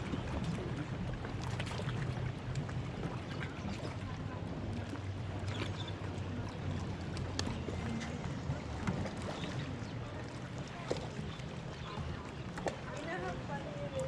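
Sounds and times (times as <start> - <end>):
water sloshing around a kayak: 0.0 - 14.0.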